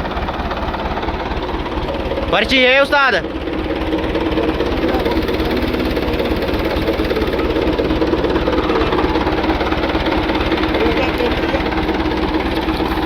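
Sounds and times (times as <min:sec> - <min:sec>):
tractor diesel engine throbbing: 0:00.0 - 0:13.0.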